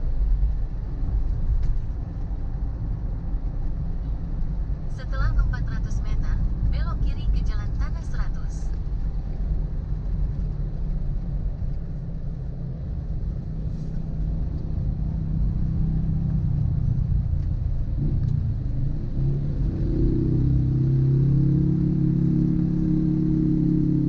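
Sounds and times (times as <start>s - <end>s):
road vehicle engine rumble: 0.0s - 24.0s.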